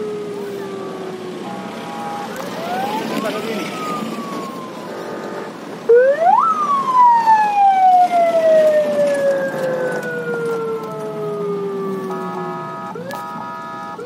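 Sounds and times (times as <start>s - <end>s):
vehicle siren wailing: 0.0s - 14.0s.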